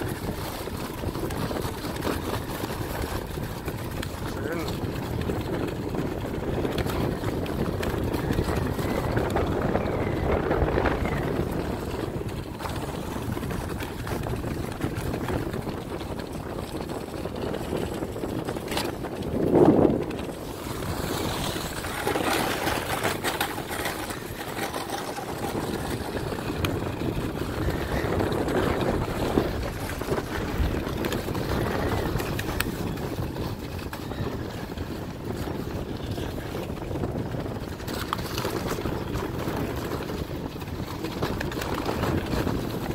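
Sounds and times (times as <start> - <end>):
sledge runners scraping snow: 0.0 - 42.9
wind on microphone: 0.0 - 42.9.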